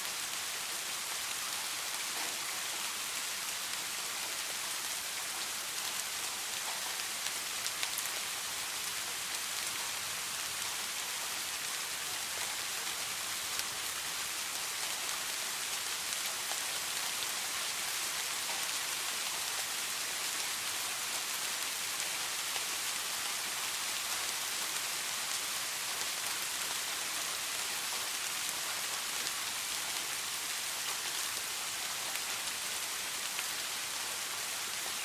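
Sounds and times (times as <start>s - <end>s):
soft rain pattering: 0.0s - 35.0s.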